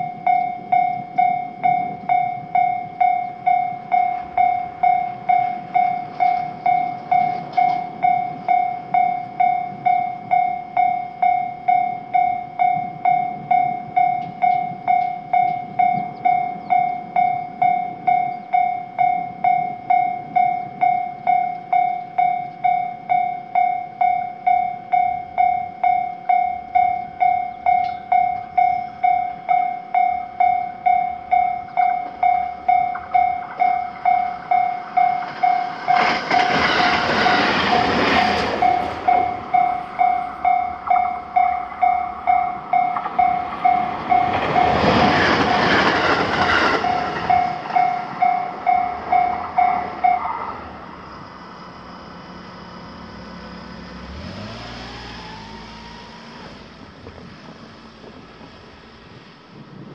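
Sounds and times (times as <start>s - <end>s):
level crossing warning bell: 0.0s - 59.8s
trains rattling past: 0.0s - 59.9s.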